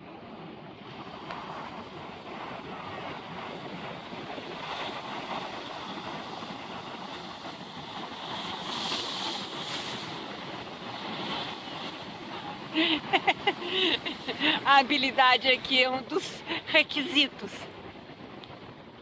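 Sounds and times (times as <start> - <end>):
wave crashing over rocks: 0.8 - 18.7
ocean surf washing on rocks: 0.8 - 19.0.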